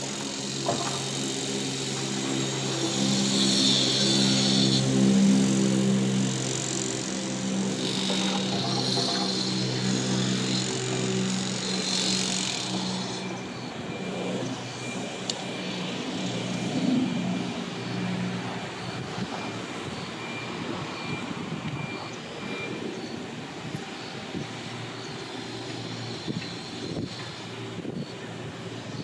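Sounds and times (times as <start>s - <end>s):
engine running low hum: 0.0s - 29.0s.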